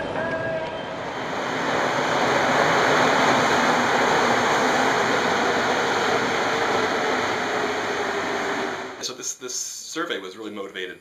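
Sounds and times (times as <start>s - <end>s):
city traffic rushing: 0.0s - 9.0s.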